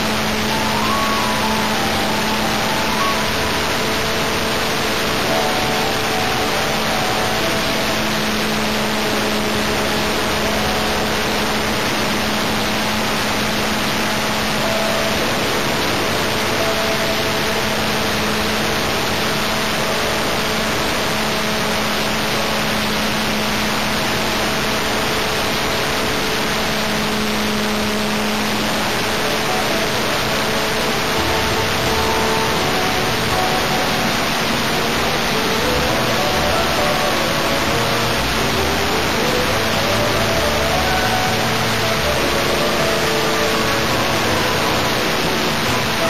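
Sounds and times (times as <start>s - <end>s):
model engine running at high speed: 0.0s - 46.0s.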